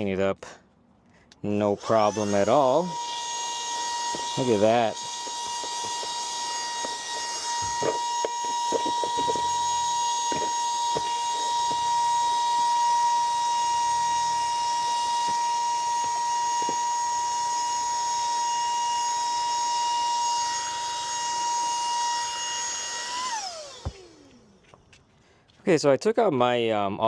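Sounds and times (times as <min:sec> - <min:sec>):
handheld vacuum whining: 0:01.6 - 0:25.1
vacuum motor spinning down: 0:01.8 - 0:24.6.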